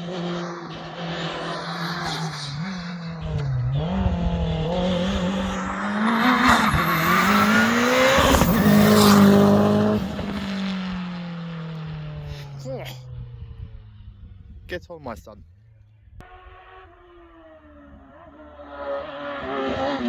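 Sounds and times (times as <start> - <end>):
race car engine accelerating: 0.0 - 14.6, 15.7 - 20.0.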